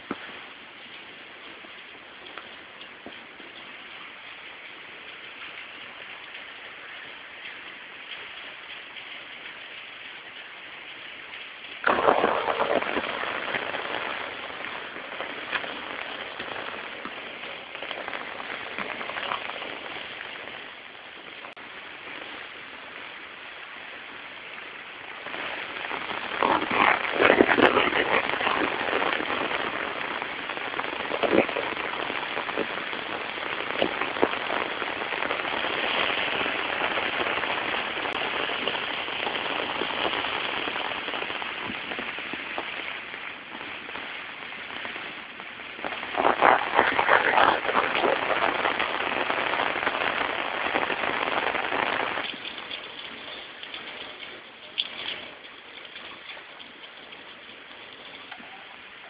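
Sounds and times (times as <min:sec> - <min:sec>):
heavy rain on pavement: 0:00.0 - 0:59.0.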